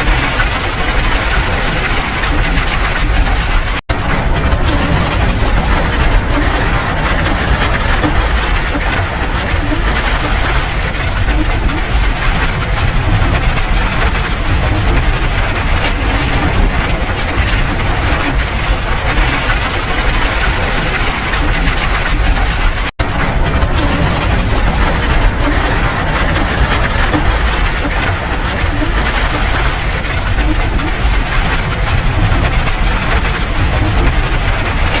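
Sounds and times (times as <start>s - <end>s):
steady rain: 0.0s - 35.0s
low rumble: 0.1s - 35.0s.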